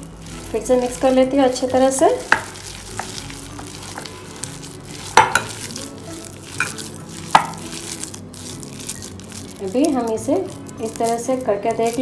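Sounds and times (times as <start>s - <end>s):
hands squelching wet batter: 0.0s - 12.0s.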